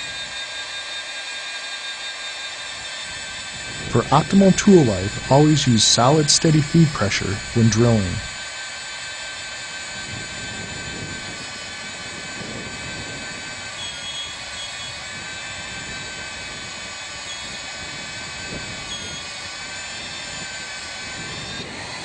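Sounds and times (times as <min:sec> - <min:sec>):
magnetic drill whining through steel: 0:00.0 - 0:22.0.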